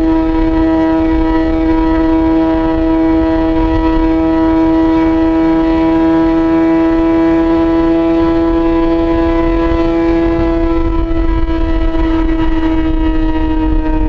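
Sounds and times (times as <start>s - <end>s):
low wind rumble: 0.0s - 14.0s
motorcycle engine drone: 0.0s - 14.0s.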